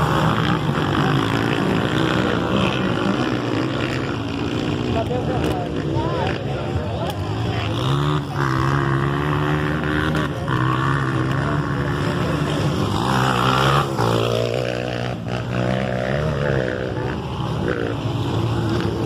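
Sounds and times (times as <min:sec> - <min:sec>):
motocross motorcycle engines revving: 0:00.0 - 0:19.0.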